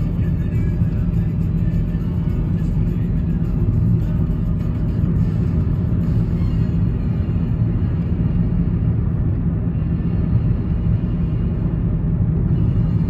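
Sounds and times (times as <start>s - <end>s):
car road and tyre noise: 0.0s - 13.0s.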